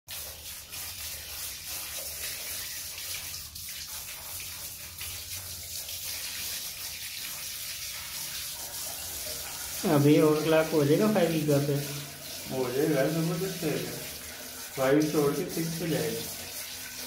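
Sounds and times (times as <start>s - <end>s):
tap water running and splashing: 0.1s - 17.0s.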